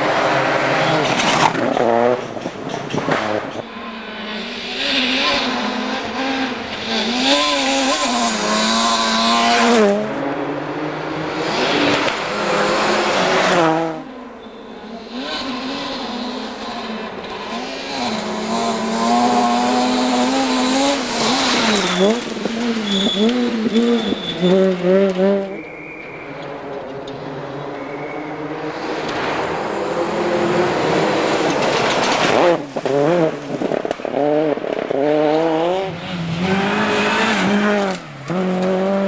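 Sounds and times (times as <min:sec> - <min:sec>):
rally car engines revving: 0:00.0 - 0:39.0.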